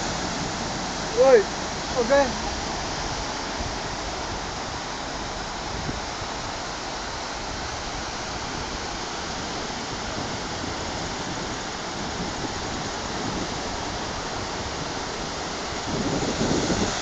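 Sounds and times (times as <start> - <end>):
sea surf rushing: 0.0 - 17.0.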